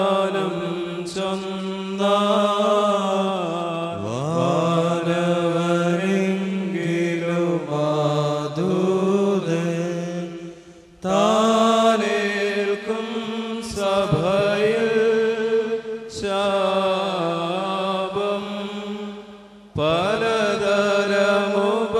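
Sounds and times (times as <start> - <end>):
liturgical chant: 0.0 - 21.9.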